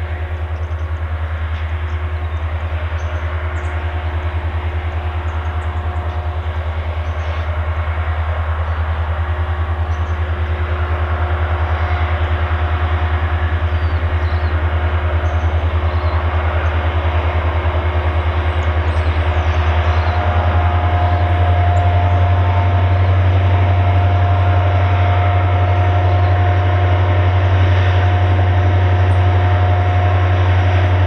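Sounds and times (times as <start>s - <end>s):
locomotive engine drone: 0.0s - 31.0s.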